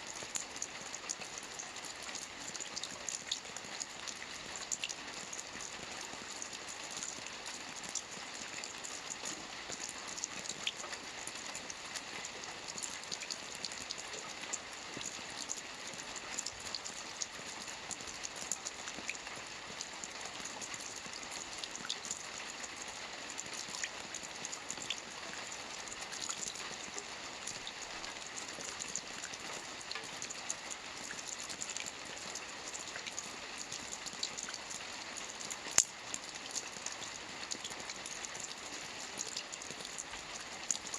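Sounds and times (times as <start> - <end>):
rain falling on lake water: 0.0 - 40.9.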